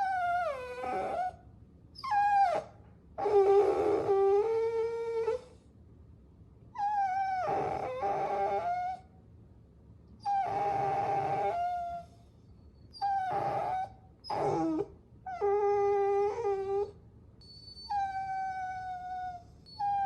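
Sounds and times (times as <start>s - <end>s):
puppy whining: 0.0s - 1.4s, 2.0s - 5.6s, 6.8s - 9.1s, 10.2s - 20.0s.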